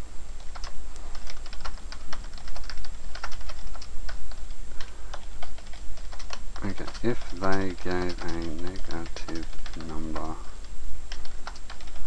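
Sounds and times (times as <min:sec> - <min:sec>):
low steady hum: 0:00.0 - 0:12.0
keyboard typing clicks: 0:00.4 - 0:10.4.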